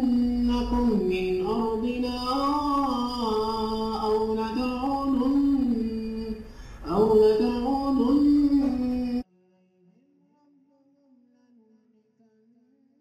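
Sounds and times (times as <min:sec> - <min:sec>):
man reciting in melodic chant: 0:00.0 - 0:12.4.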